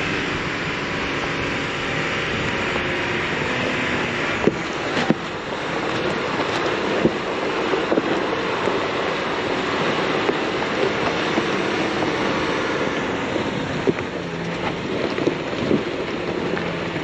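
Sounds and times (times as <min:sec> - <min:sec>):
off-road vehicle engine: 0:00.0 - 0:17.0.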